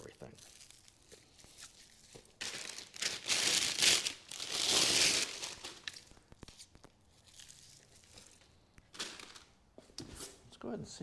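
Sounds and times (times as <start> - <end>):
packing material crinkling and tearing: 0.0 - 9.6.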